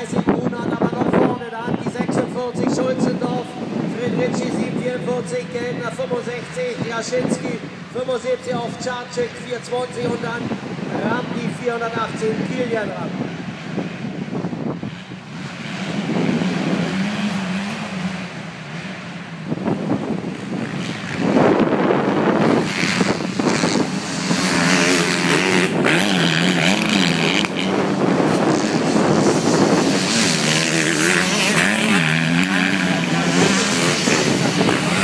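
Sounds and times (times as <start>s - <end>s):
motocross bikes revving past: 3.1s - 35.0s.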